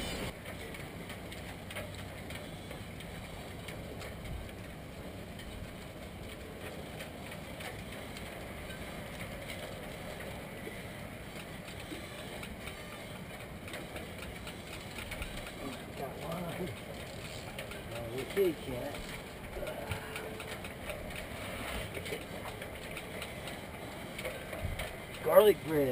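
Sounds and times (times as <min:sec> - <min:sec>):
outdoor background hiss: 0:00.0 - 0:25.9.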